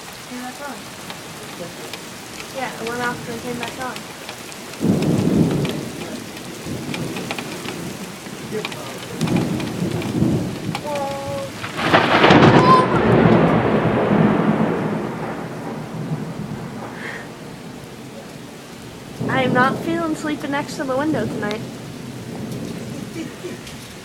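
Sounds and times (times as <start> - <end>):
crackling thunderclap: 0.0 - 24.0
heavy rain: 0.0 - 24.0
thunder rumbling: 0.0 - 24.0.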